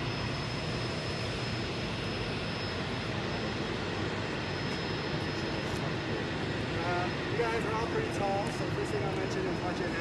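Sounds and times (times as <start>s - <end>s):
aircraft propeller engine running: 0.0s - 10.0s.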